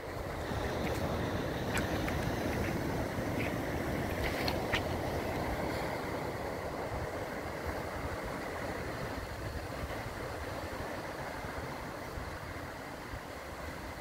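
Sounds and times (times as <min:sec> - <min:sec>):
small waves on stony beach: 0:00.0 - 0:14.0
wind buffeting microphone: 0:00.0 - 0:14.0.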